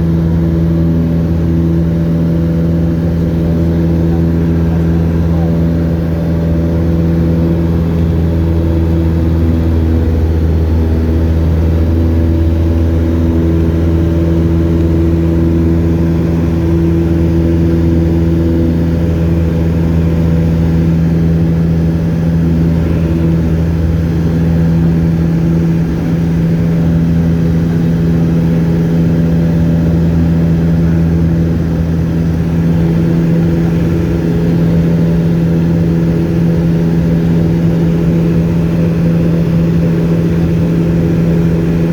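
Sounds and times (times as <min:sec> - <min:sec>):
light aircraft engine drone: 0:00.0 - 0:41.9.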